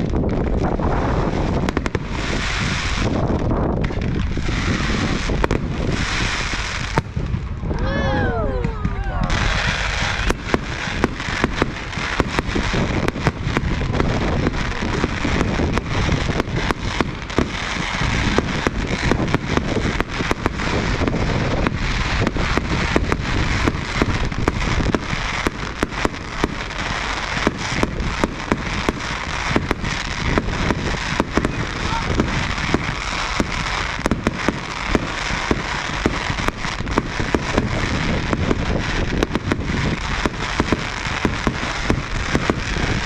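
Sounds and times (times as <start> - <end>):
firework shells bursting: 0.0 - 7.6, 8.6 - 43.0
fireworks crackling: 0.0 - 43.0.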